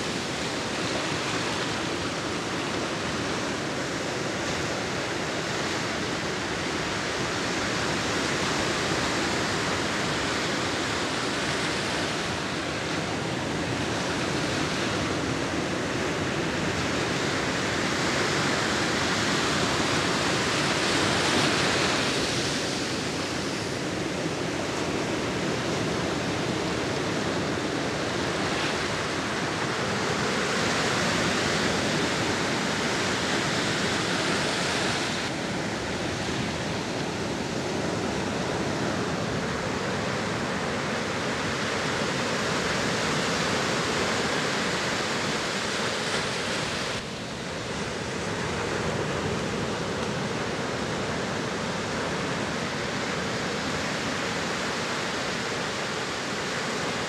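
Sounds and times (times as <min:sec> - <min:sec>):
ocean waves crashing: 0:00.0 - 0:57.0.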